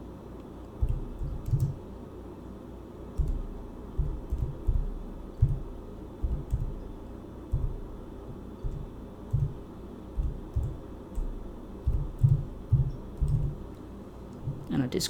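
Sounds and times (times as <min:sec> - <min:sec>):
faint steady hum: 0:00.0 - 0:15.0
keyboard keystrokes: 0:00.7 - 0:01.8, 0:03.2 - 0:14.7.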